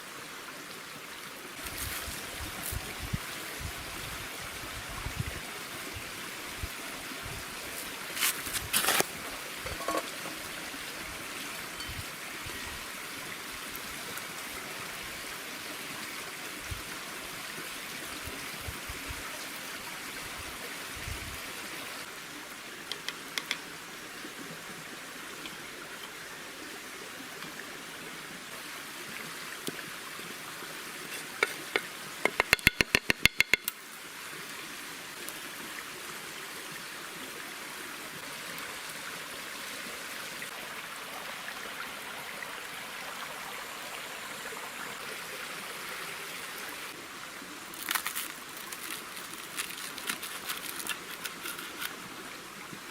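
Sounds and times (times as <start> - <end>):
flowing water: 0.0 - 52.9.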